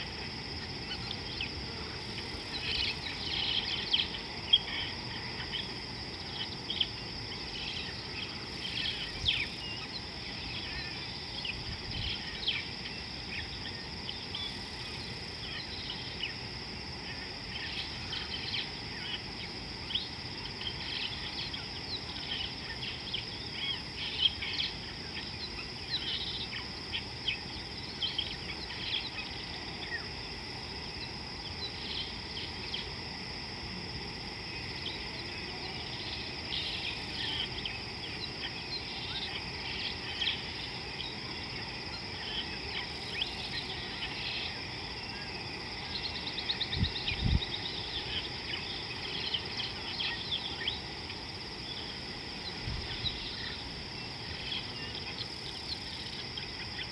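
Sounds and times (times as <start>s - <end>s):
high insect drone: 0.0s - 56.9s.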